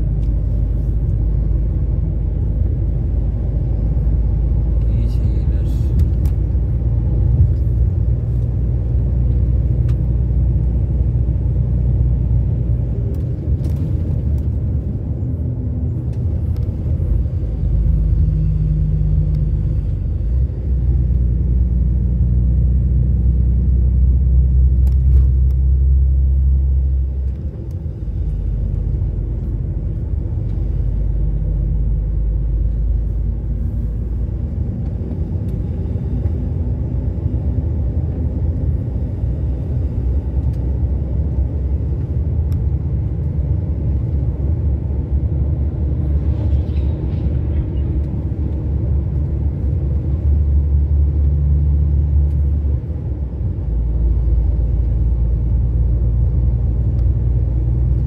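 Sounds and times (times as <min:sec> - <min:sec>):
engine drone inside truck cab: 0:00.0 - 0:58.0
road noise: 0:00.0 - 0:58.0.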